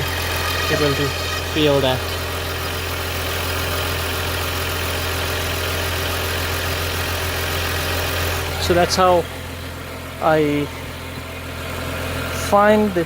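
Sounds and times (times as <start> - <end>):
engine idling hum: 0.0 - 13.0.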